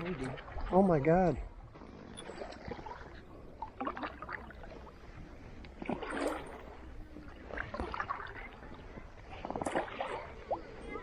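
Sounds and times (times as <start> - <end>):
water splashing beside kayak: 0.0 - 11.0.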